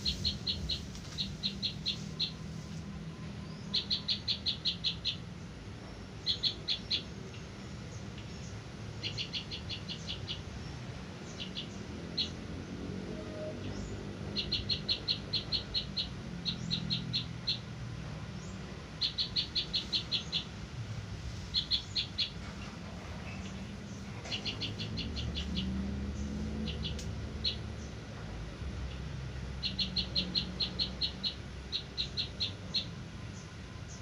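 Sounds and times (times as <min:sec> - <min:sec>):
bird chirping in bursts: 0:00.0 - 0:02.8, 0:03.4 - 0:20.7, 0:21.3 - 0:28.2, 0:28.8 - 0:34.0.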